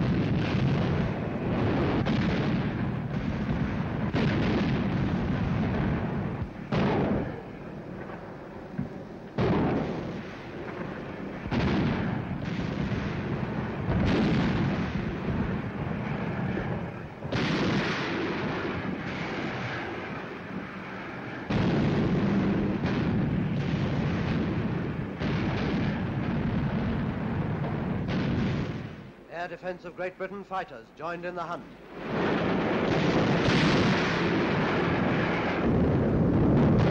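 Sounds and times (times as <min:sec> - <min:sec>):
anti-aircraft guns firing: 0:00.0 - 0:29.1, 0:32.0 - 0:36.9.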